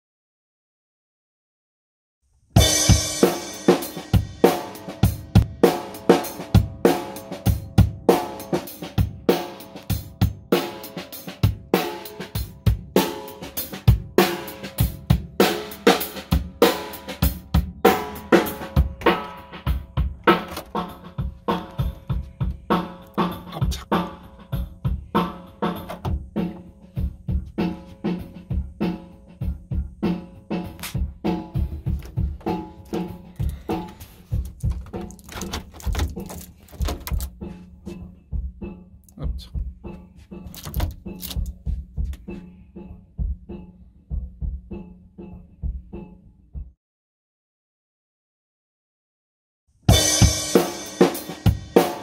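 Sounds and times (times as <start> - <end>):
drum kit playing a steady beat: 2.6 - 46.8, 49.9 - 52.0.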